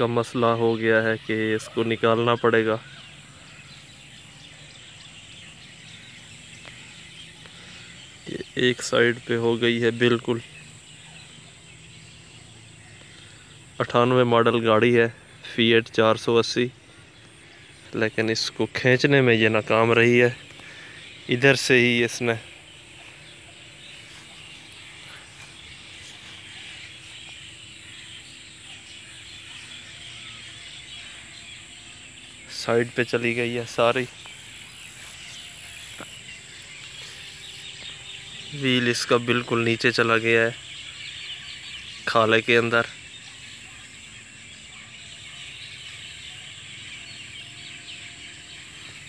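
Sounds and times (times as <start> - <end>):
high steady hiss: 0.0 - 49.0
outdoor background noise: 0.0 - 49.0
small birds chirping: 0.0 - 49.0.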